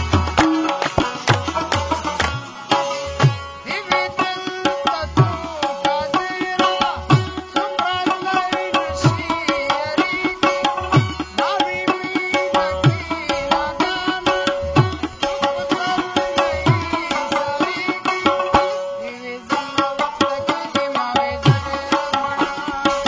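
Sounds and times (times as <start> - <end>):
harmonium melody: 0.0 - 23.0
tabla playing fast strokes: 0.0 - 23.0.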